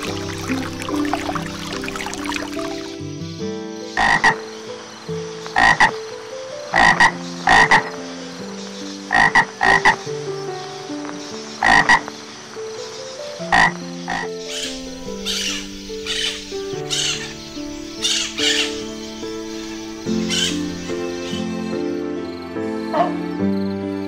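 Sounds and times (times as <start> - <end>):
frog croaking: 0.0 - 3.0, 3.9 - 21.5, 22.9 - 23.2
background melody: 0.0 - 24.0.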